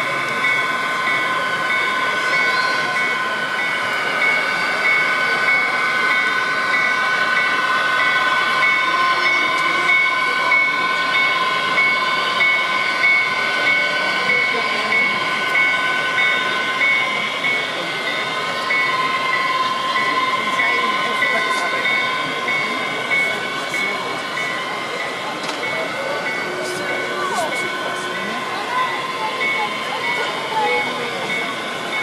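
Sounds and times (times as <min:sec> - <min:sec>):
crowd murmur in a hall: 0:00.0 - 0:32.0.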